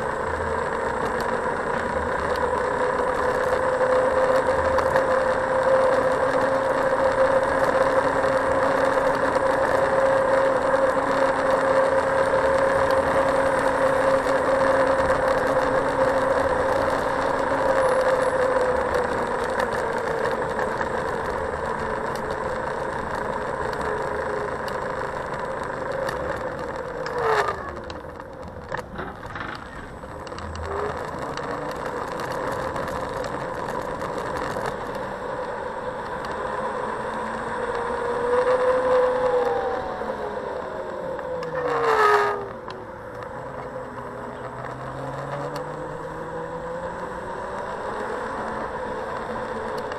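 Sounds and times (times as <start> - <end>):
electric scooter motor whine: 0.0 - 49.9
tyre and wind noise: 0.0 - 49.9.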